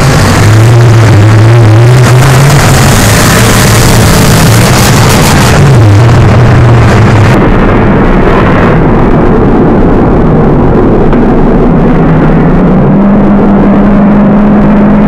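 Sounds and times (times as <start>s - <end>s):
monster truck engine revving: 0.0s - 8.8s, 10.4s - 15.0s.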